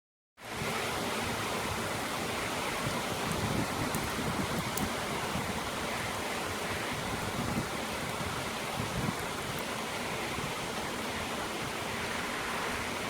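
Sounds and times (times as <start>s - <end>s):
heavy rain pouring: 0.4s - 13.0s.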